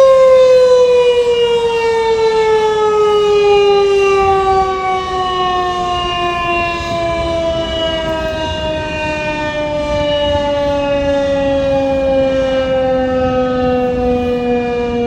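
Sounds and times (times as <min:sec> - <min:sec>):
warning siren winding down: 0:00.0 - 0:15.0.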